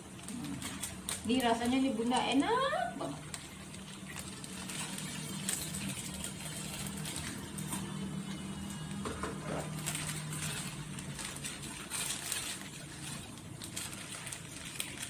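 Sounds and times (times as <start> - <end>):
pot of water bubbling: 0.0 - 15.0.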